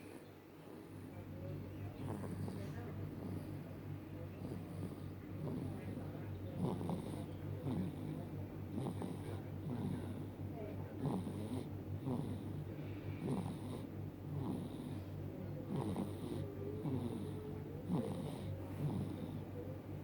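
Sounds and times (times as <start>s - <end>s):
baby snoring: 2.0s - 3.6s, 4.3s - 19.5s.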